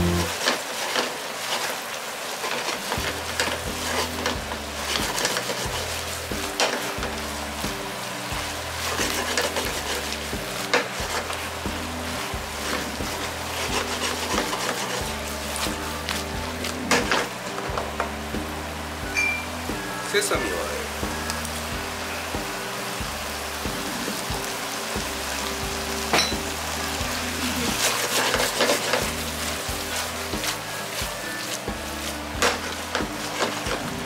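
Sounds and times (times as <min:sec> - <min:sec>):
background music: 0:00.0 - 0:00.4, 0:03.0 - 0:34.0
stir-fry sizzling in a pan: 0:00.0 - 0:34.0.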